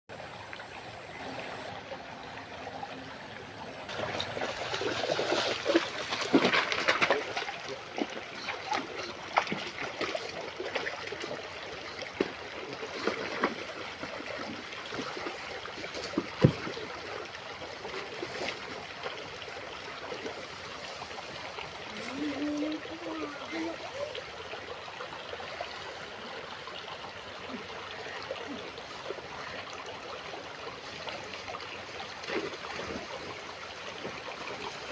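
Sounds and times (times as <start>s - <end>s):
shallow stream trickling: 0.1s - 34.9s
splashing of wading through water: 3.8s - 34.9s.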